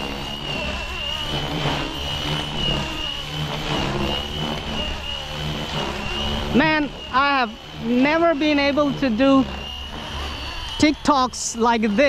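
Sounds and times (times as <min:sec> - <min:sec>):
low rotor hum: 0:00.0 - 0:12.0
rc helicopter motor whine: 0:00.0 - 0:12.0.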